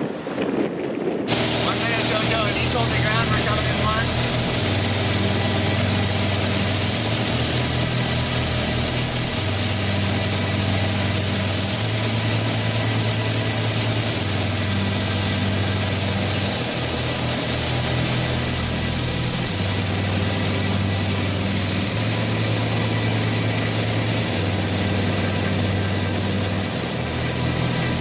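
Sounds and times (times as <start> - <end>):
propeller aircraft engine droning: 0.0 - 28.0
rush of air: 0.0 - 28.0.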